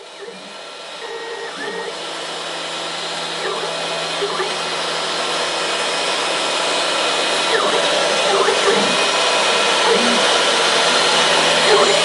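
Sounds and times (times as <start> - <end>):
router spindle whining: 0.0 - 12.0
rushing machine noise: 0.0 - 12.0.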